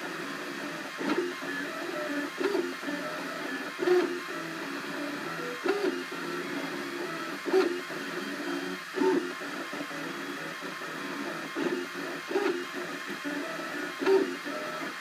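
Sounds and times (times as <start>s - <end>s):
stepper motors whirring: 0.6s - 15.0s.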